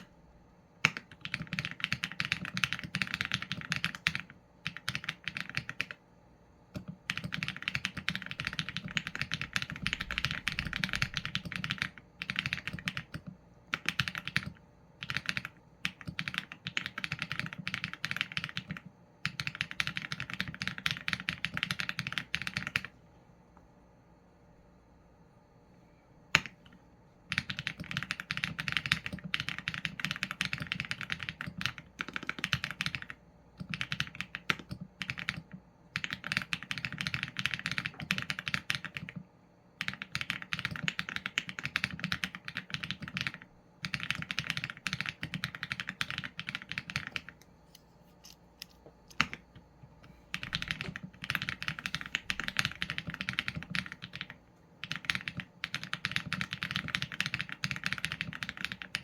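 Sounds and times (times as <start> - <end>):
mechanical keyboard typing: 0.8 - 6.0, 6.7 - 22.9, 26.3 - 47.4, 49.1 - 49.6, 50.3 - 59.0.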